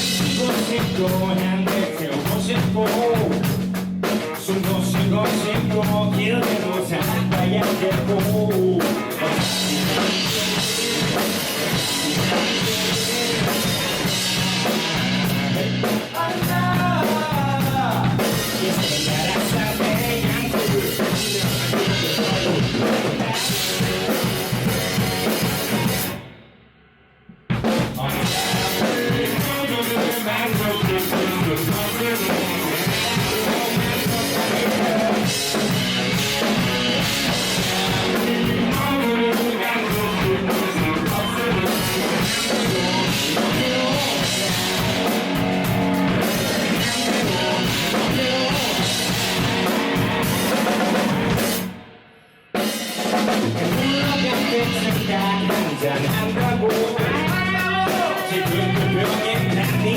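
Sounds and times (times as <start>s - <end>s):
live rock band playing: 0.0s - 26.4s, 27.5s - 59.9s
drum kit: 0.0s - 59.9s.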